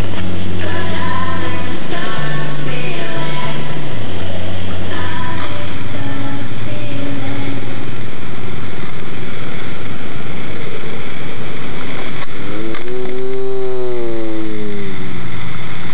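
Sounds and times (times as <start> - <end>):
heavily distorted music: 0.0 - 15.9
pitched tone bending: 0.0 - 15.9.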